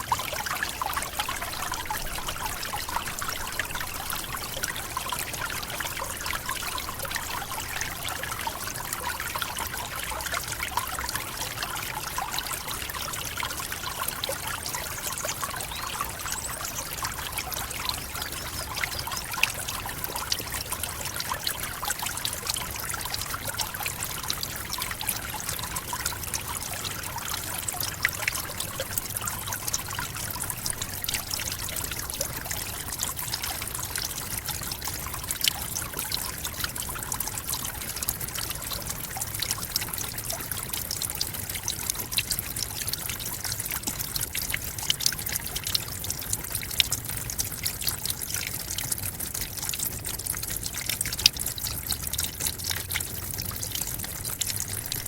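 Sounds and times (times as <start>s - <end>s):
small splashes and trickles: 0.0s - 55.0s.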